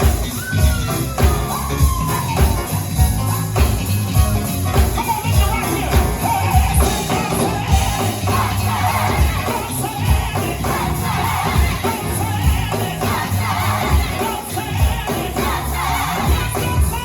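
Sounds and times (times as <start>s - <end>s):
crowd singing along: 0.0s - 17.0s
drum beat: 0.0s - 17.0s
gospel choir and band: 0.0s - 17.0s
tambourine: 0.0s - 17.0s.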